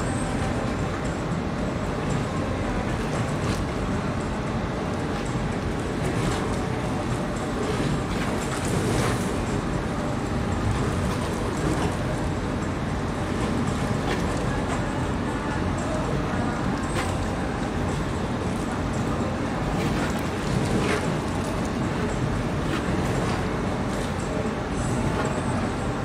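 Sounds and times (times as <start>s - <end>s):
low rumble and hiss: 0.0s - 26.0s
water lapping: 0.0s - 26.0s.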